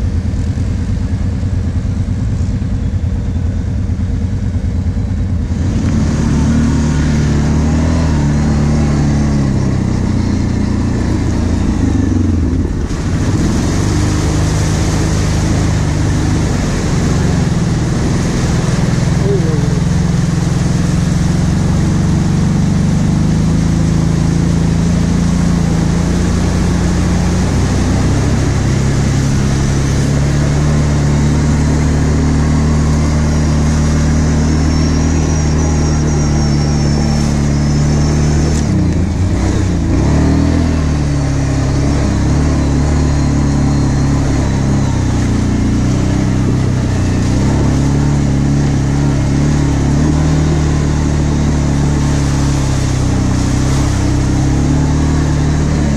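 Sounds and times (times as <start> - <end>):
quad bike engine running: 0.0 - 55.9.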